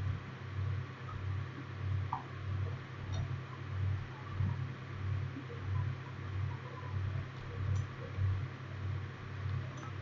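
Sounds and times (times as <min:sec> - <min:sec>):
low electrical hum with hiss: 0:00.0 - 0:10.0.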